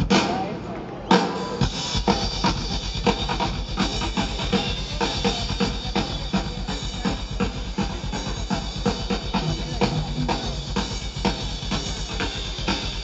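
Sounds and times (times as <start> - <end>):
fast bass drum pattern: 1.5 - 13.0.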